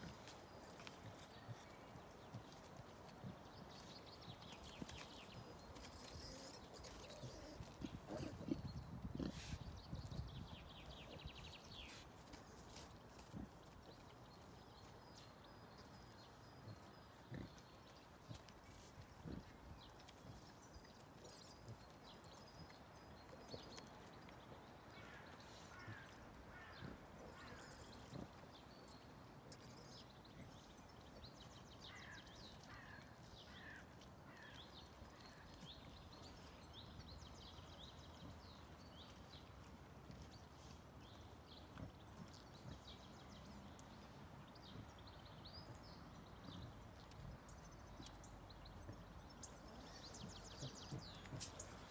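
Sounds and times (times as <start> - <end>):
boar rooting in soil: 0.0 - 51.9.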